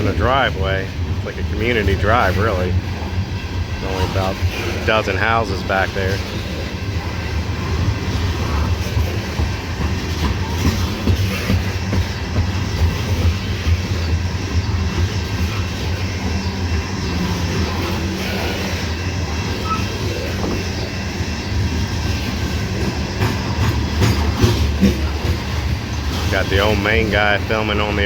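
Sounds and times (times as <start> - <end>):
freight train wheels rumbling on rails: 0.0 - 28.0
train wheel clicks: 0.0 - 28.0.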